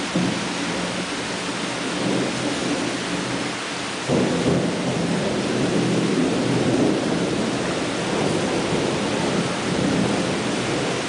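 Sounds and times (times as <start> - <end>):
heavy rain on leaves: 0.0 - 11.0.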